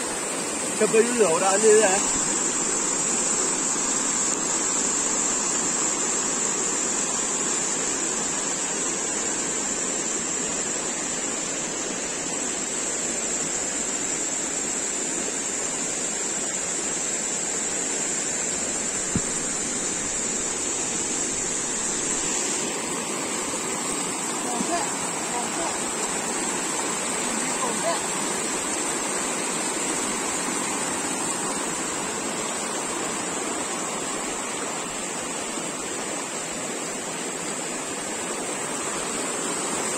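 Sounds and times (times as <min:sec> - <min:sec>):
stream pouring over weir: 0:00.0 - 0:39.9.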